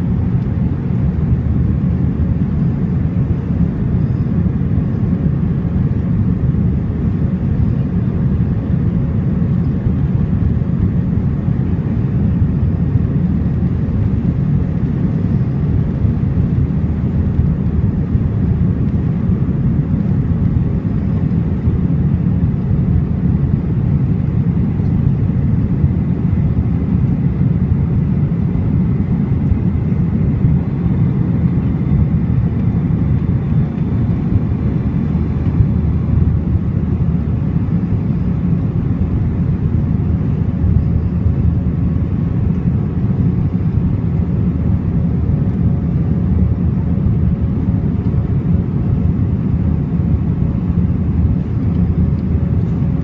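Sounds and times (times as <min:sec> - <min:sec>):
faint steady hum: 0:00.0 - 0:53.0
jet engines and airflow rumble: 0:00.0 - 0:53.0.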